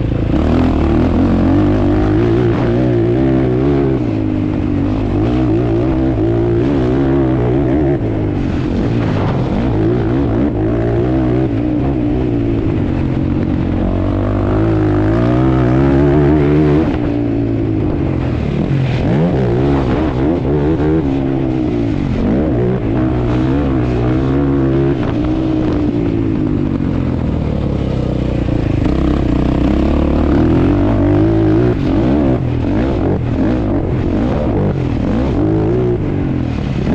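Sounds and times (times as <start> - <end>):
atv engine revving: 0.0 - 36.9.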